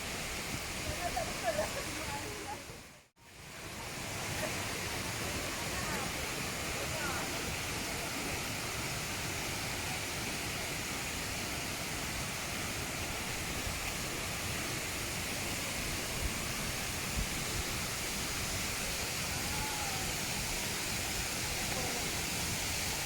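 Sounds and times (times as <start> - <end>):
waterfall roar: 0.0 - 23.0.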